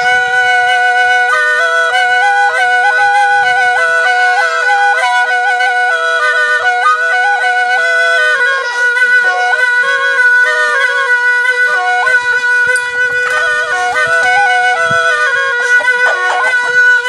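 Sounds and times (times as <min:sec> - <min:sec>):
duct flute drone: 0:00.0 - 0:17.0
flute folk melody: 0:00.0 - 0:17.0.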